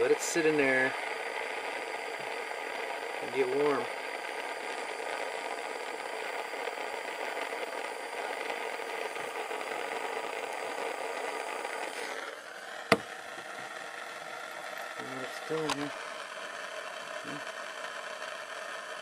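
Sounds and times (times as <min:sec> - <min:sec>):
gas torch flame roaring: 0:00.0 - 0:19.0.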